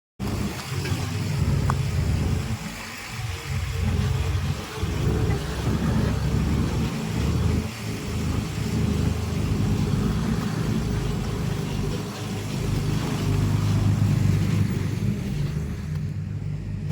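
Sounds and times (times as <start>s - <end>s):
heavy diesel machine rumbling: 0.2s - 16.9s.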